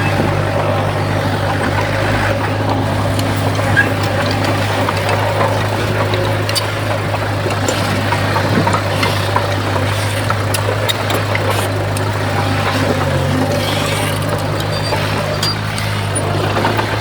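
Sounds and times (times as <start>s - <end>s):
diesel engine humming: 0.0s - 17.0s.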